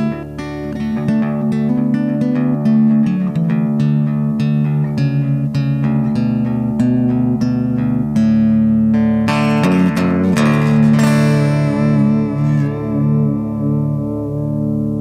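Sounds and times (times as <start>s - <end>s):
picked guitar pattern: 0.0s - 15.0s
strummed guitar chords: 0.0s - 15.0s.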